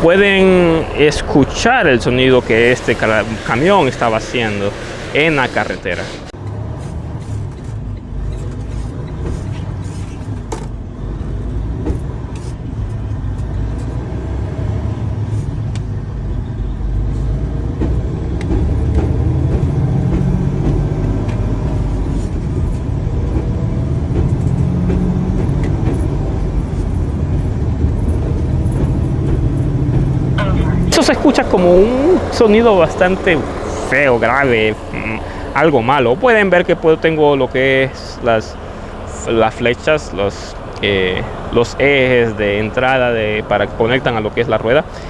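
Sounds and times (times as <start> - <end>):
deep differential grinding noise: 0.0 - 45.0
truck running on road: 0.0 - 45.0.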